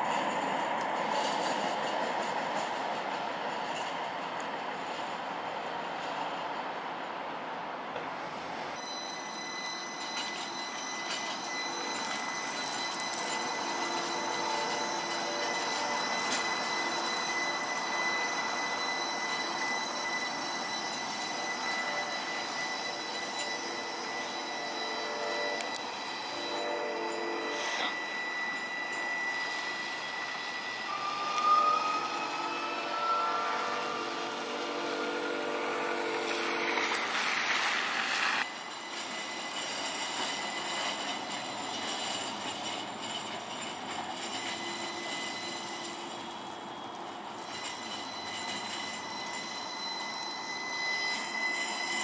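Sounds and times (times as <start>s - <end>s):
streetcar wheels squealing: 0.0s - 52.0s.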